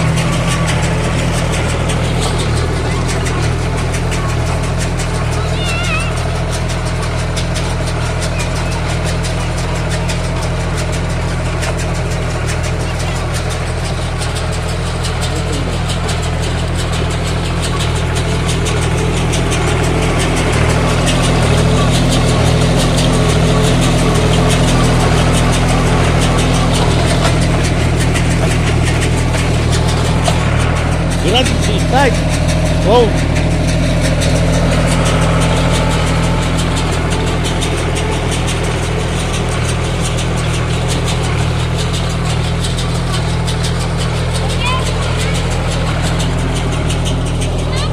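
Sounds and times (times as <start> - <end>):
tractor diesel engine clattering: 0.0 - 47.9.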